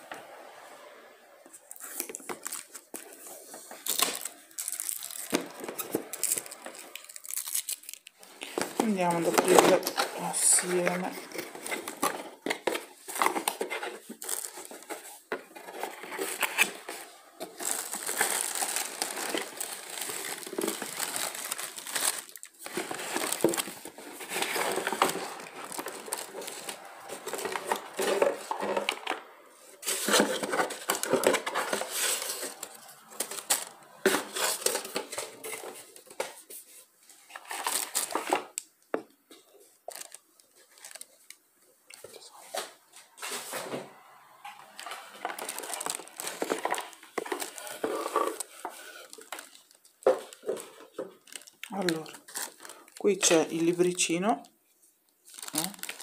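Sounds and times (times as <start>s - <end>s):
plastic wrap crinkling: 1.6s - 36.6s, 37.2s - 42.8s, 43.5s - 54.5s, 55.2s - 56.0s
cardboard packaging scraping: 1.6s - 38.6s, 42.1s - 53.0s, 55.3s - 56.0s.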